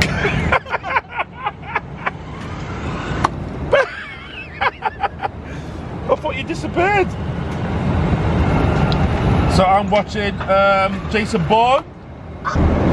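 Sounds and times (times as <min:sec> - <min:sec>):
airliner cabin drone: 0:00.0 - 0:12.9.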